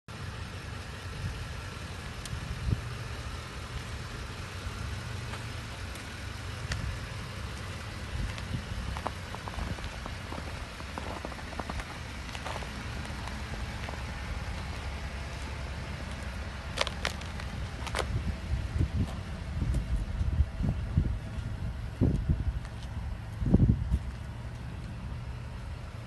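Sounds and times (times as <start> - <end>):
engine idling with low rumble: 0.1 - 26.0.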